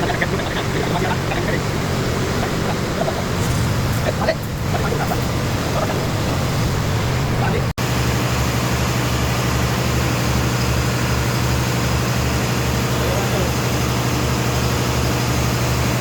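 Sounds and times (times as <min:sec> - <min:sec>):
pulsing low machine drone: 0:00.0 - 0:16.0.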